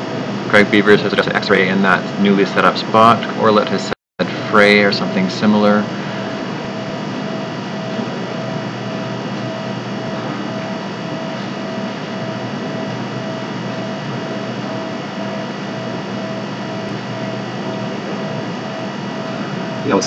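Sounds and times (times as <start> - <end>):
faint pulsing tone: 0.0 - 20.0
room hiss and electrical hum: 0.0 - 20.0.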